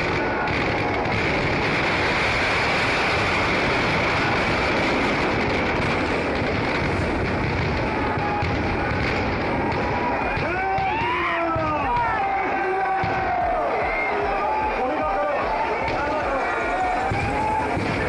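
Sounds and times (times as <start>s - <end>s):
fireworks crackling roar: 0.0s - 18.0s.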